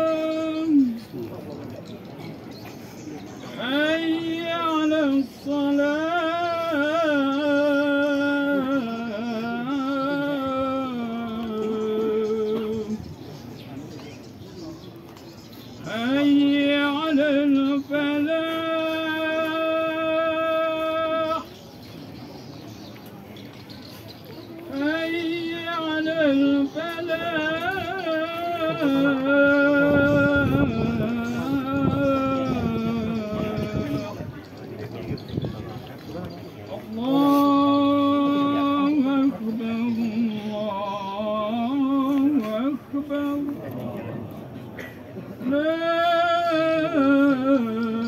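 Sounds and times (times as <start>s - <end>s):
man chanting a recitation: 0.0s - 1.4s, 3.5s - 13.0s, 15.8s - 21.5s, 24.6s - 44.6s, 45.4s - 48.0s.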